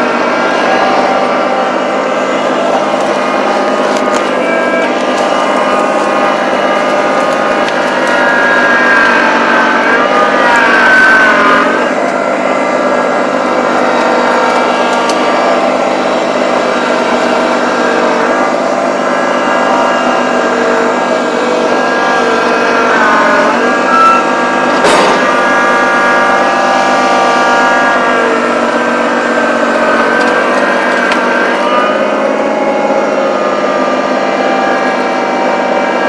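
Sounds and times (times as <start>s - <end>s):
tractor engine labouring and revving: 0.0s - 36.0s.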